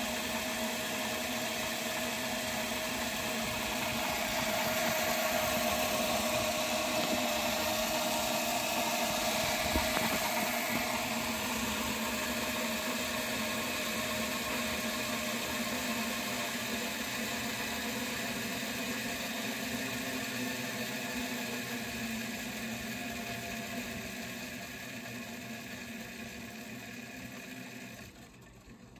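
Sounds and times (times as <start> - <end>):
small motors whirring: 0.0 - 28.5.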